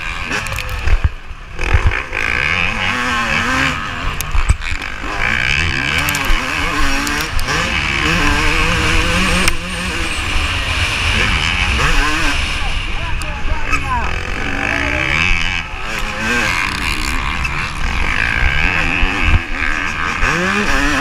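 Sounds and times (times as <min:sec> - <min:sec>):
two-stroke motocross engine revving: 0:00.0 - 0:21.0.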